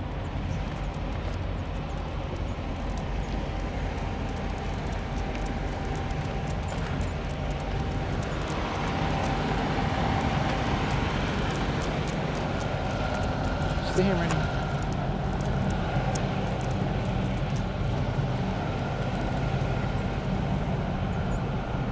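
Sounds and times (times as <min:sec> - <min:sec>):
distant vehicle engines rumbling: 0:00.0 - 0:21.9
faint steady whine: 0:00.0 - 0:21.9.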